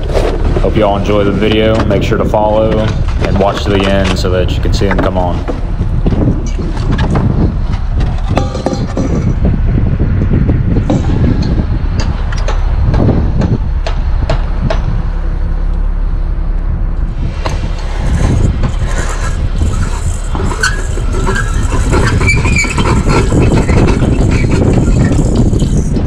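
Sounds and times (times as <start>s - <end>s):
hum: 0.0s - 26.0s
truck engine rumbling: 0.0s - 26.0s.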